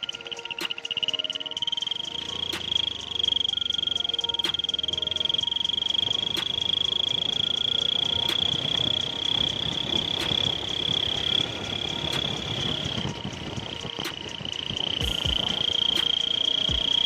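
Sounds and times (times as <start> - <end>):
exhaust whistle: 0.0 - 17.0
motorcycle exhaust beats: 0.0 - 17.0.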